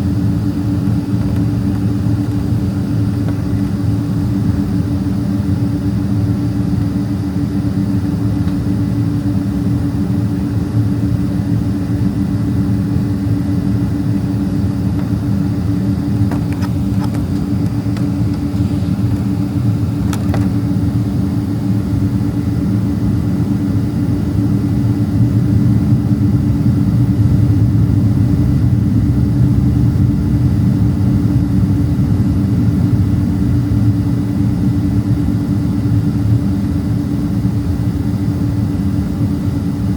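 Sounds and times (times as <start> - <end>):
jet engines rumbling: 0.0 - 39.9
steady hum: 0.0 - 39.9.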